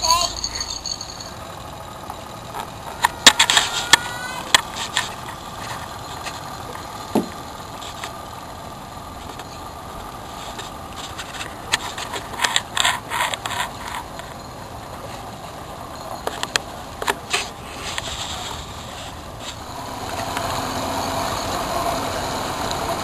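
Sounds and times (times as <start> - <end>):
distant outboard engine whine: 0.0 - 23.0.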